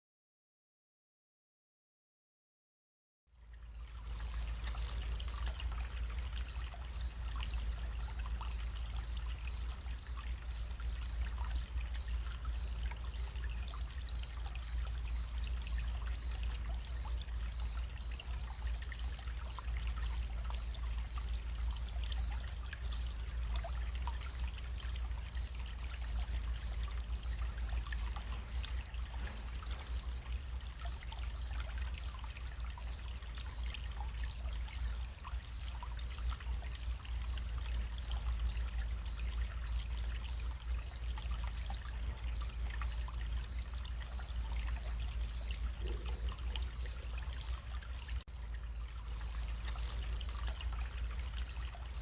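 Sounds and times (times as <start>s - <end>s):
stream trickling: 3.3s - 52.0s
tiny water splashes: 3.6s - 52.0s.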